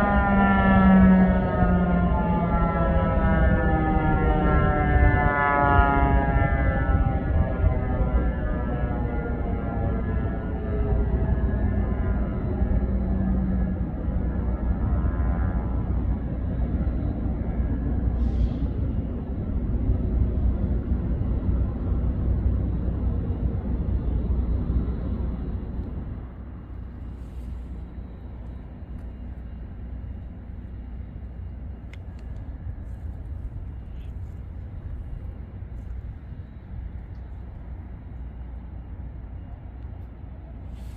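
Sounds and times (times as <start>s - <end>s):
low outdoor rumble: 0.0s - 40.9s.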